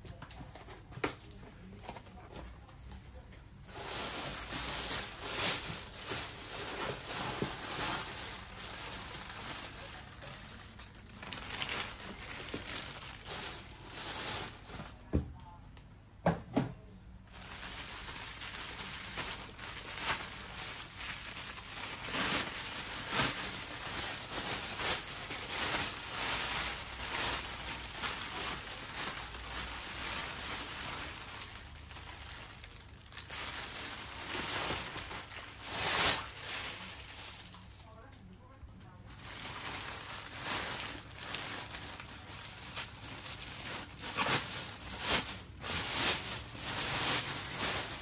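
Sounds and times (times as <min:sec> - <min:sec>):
plastic bags crinkling: 0:00.0 - 0:15.2, 0:17.2 - 0:38.4, 0:39.0 - 0:48.0.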